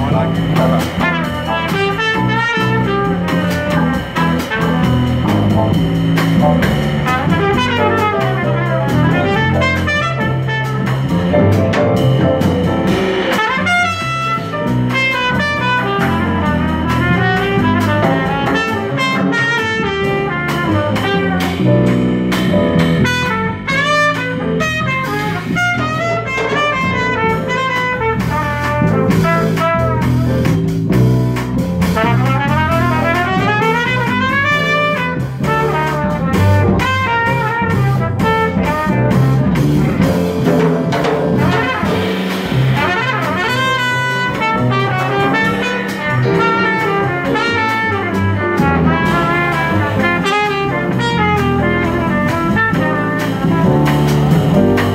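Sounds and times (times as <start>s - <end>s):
trumpet fast runs: 0.0s - 12.0s, 12.9s - 21.8s, 22.8s - 30.6s, 31.8s - 40.0s, 40.8s - 54.9s
drum kit with cymbals: 0.0s - 54.9s
plucked upright bass: 0.0s - 54.9s.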